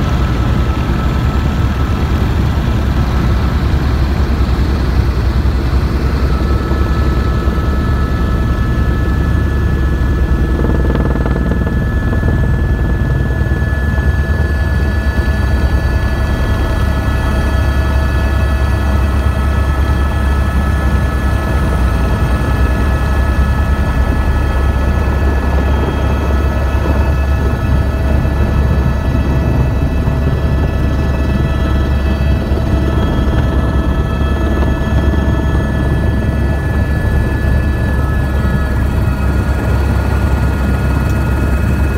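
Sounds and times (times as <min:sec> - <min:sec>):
helicopter engine and rotor drone: 0:00.0 - 0:41.9.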